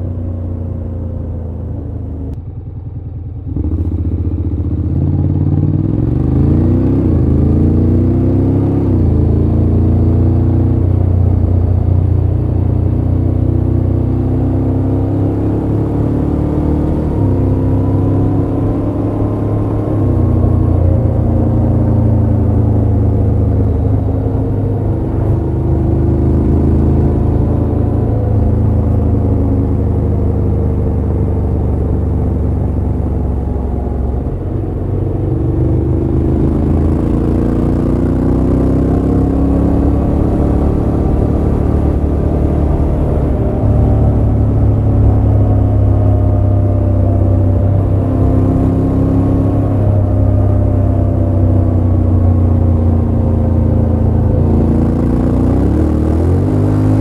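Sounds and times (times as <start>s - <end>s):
low road rumble: 0.0s - 57.0s
motorcycle engine accelerating: 0.0s - 57.0s.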